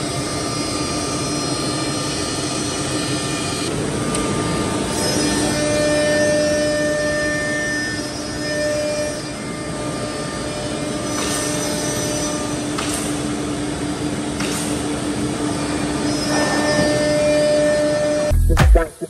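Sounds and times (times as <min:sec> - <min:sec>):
cnc router humming: 0:00.0 - 0:18.5.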